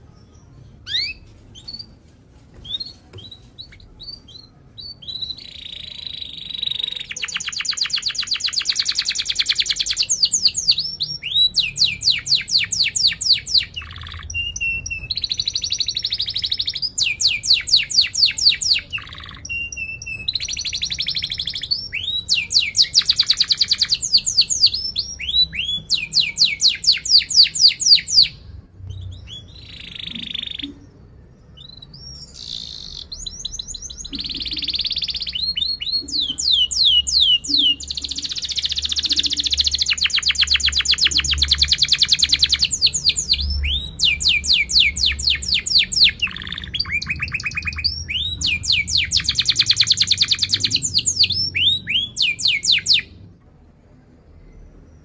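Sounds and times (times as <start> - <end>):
canary chirping and trilling: 0.0 - 2.0, 2.6 - 53.3.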